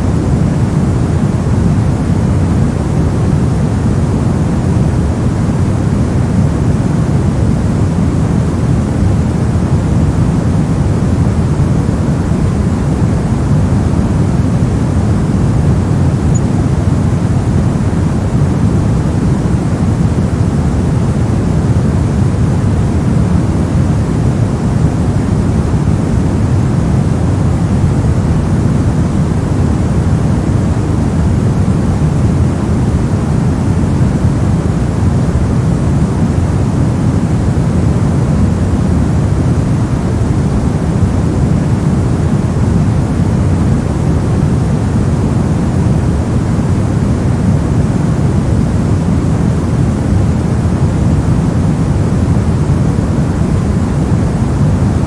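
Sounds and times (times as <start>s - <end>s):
low white noise rush: 0.0s - 55.0s.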